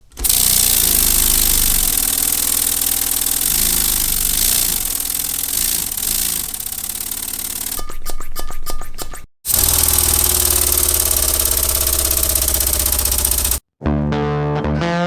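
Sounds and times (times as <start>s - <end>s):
air engine mechanical chatter: 0.0s - 8.0s, 9.5s - 13.6s.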